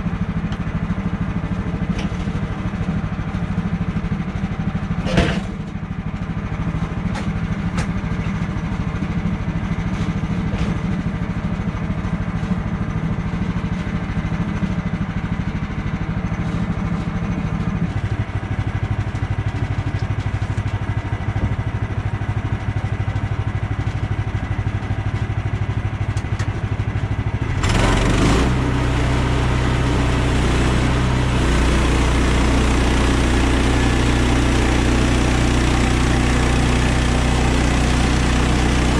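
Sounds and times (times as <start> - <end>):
loud deep engine running: 0.0 - 38.9
small engine running: 0.0 - 38.9.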